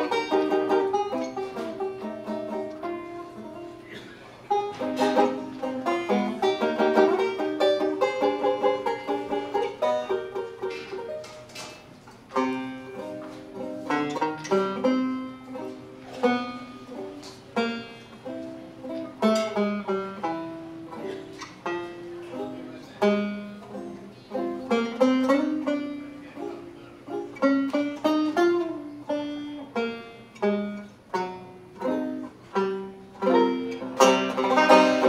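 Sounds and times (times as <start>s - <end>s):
banjo picking melody and chords: 0.0s - 35.0s.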